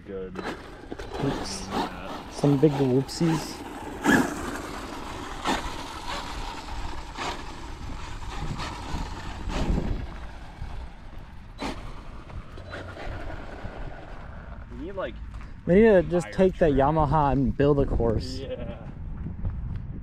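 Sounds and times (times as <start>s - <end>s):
rc truck rumbling over dirt: 0.1s - 18.8s.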